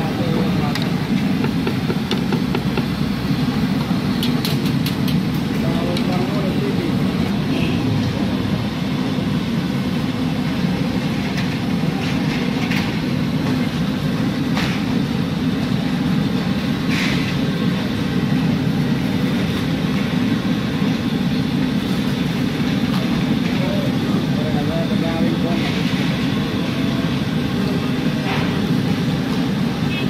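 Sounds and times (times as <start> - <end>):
low rumbling background noise: 0.0 - 30.0.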